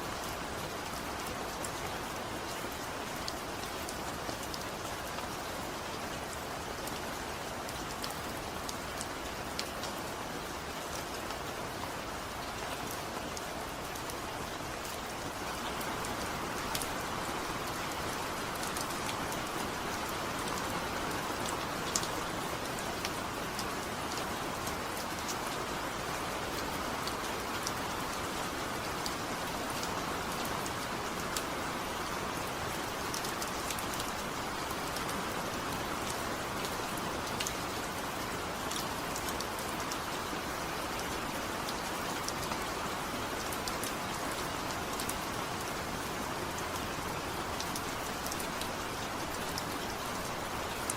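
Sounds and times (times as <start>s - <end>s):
rain drops ticking on a surface: 0.0s - 50.9s.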